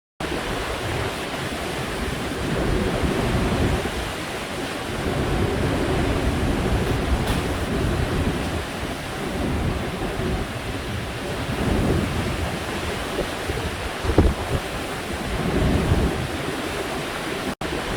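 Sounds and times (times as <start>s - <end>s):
heavy surf breaking: 0.2s - 17.9s
wind buffeting microphone: 0.2s - 17.9s.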